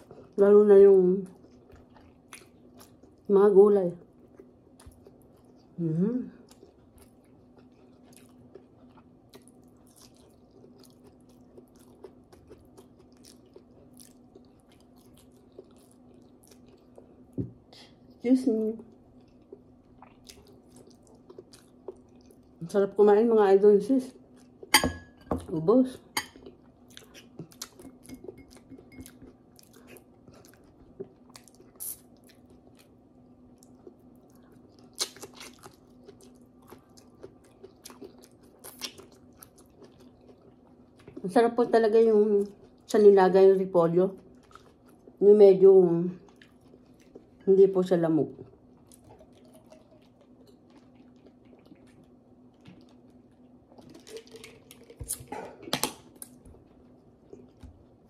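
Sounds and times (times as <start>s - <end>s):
faint steady hum: 0.0s - 58.0s
person chewing food: 1.3s - 3.3s, 4.0s - 18.2s, 18.9s - 22.6s, 24.2s - 24.8s, 26.3s - 41.3s, 44.3s - 45.2s, 46.2s - 47.4s, 48.4s - 58.0s.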